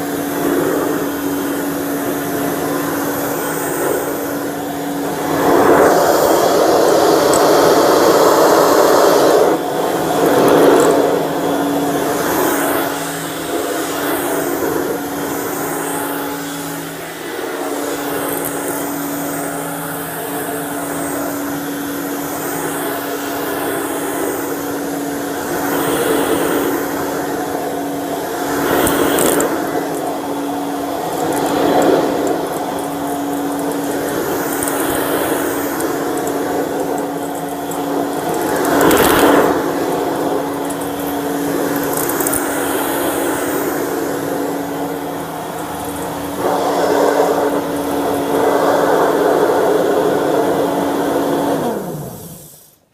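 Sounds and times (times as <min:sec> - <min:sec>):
stick vacuum running: 0:00.0 - 0:52.9.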